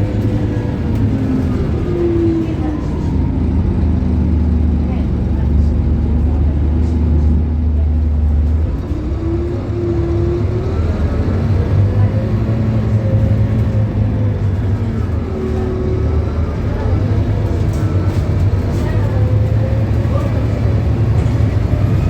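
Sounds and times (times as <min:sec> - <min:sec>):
bus diesel engine accelerating: 0:00.0 - 0:22.0.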